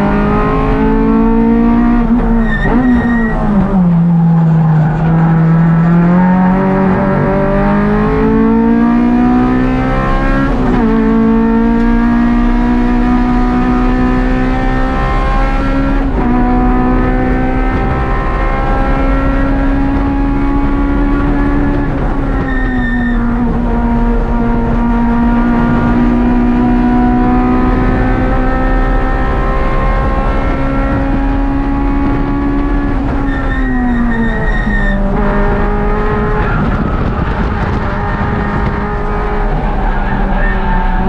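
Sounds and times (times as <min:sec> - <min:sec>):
car engine at race pace: 0:00.0 - 0:41.0.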